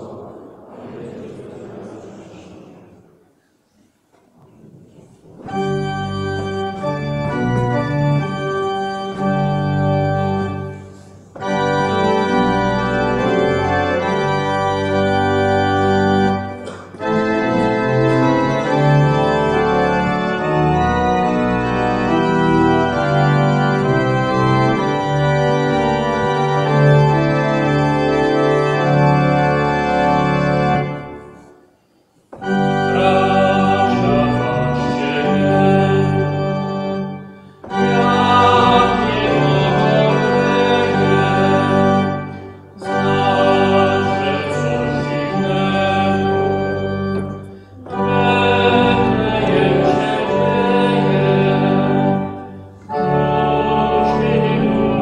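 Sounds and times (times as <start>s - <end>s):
church organ chords: 5.2s - 31.6s, 32.3s - 55.0s.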